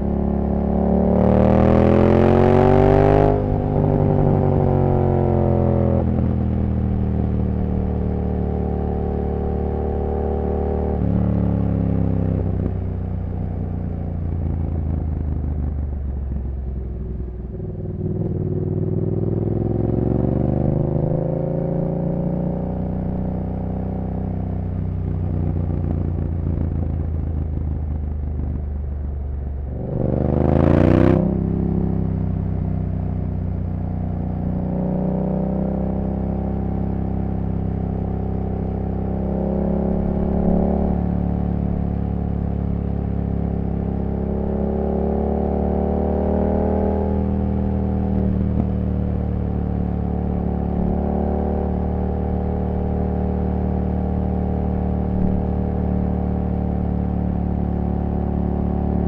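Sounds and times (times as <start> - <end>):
motorcycle engine revving: 0.0 - 8.7, 17.4 - 28.5, 29.6 - 59.0.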